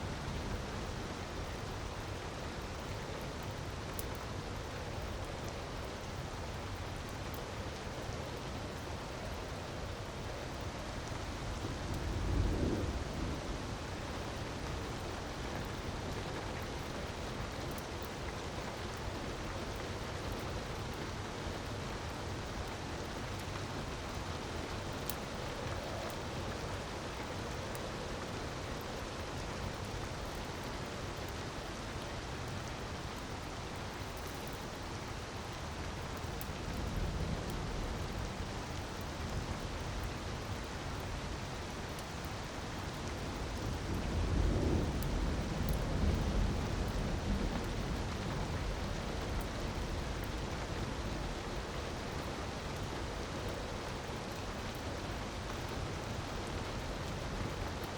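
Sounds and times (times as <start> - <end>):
faint fire crackles: 0.0 - 57.9.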